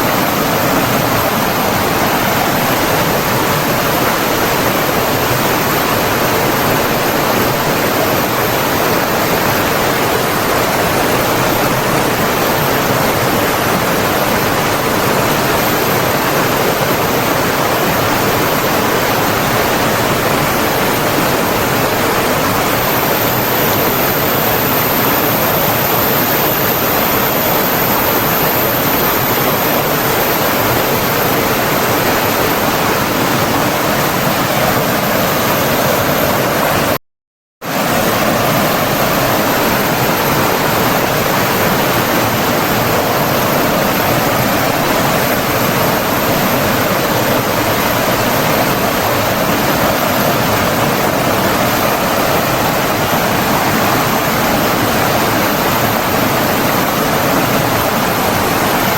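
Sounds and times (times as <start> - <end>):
water rushing: 0.0 - 37.0, 37.6 - 58.9.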